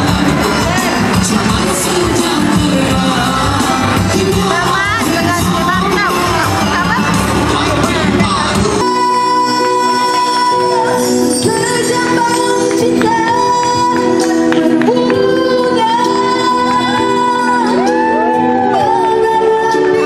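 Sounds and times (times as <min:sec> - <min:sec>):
instrumental backing with held chords: 0:00.0 - 0:20.0
woman singing into microphone: 0:00.0 - 0:20.0.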